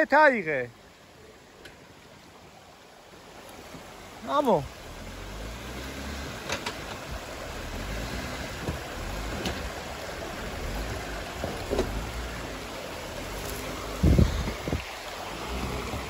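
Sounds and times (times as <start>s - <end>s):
steady hiss: 0.0s - 16.0s
suv engine running low: 0.8s - 16.0s.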